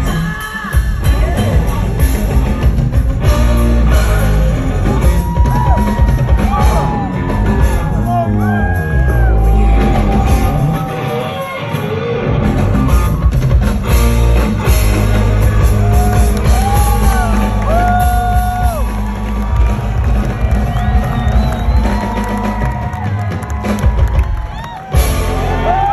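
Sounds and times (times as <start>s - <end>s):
heavy drums: 0.0s - 25.9s
rock band playing live: 0.0s - 25.9s.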